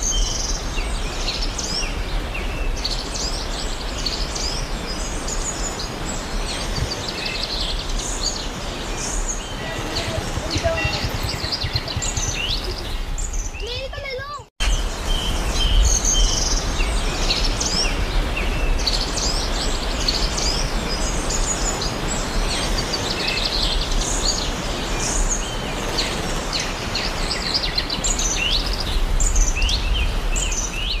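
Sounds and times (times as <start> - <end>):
small birds chirping: 0.0 - 31.0
waterfall rushing: 0.0 - 31.0.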